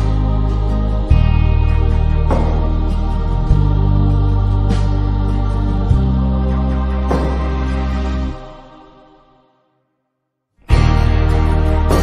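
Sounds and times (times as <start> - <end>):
music with sustained chords: 0.0 - 9.6, 10.6 - 12.0.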